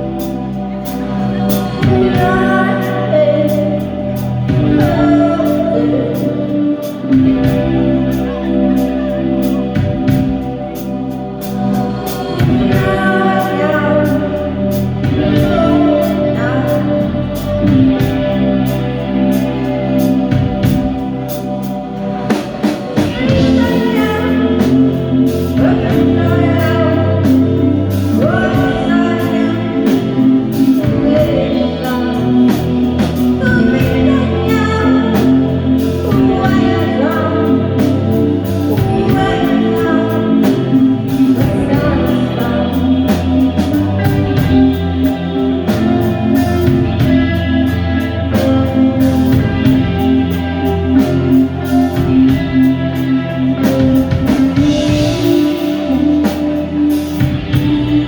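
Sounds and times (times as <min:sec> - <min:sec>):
live band playing: 0:00.0 - 0:58.0
person singing: 0:00.0 - 0:58.0.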